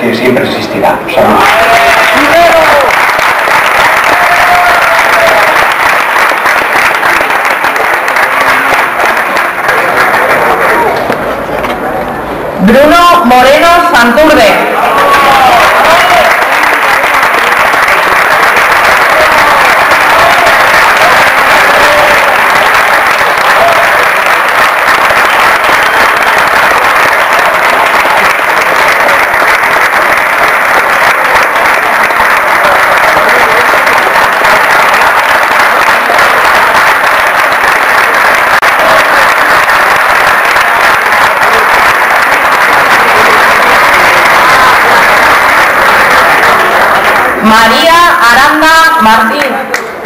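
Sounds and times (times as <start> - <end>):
crowd applauding: 1.1 - 11.8, 13.6 - 50.0.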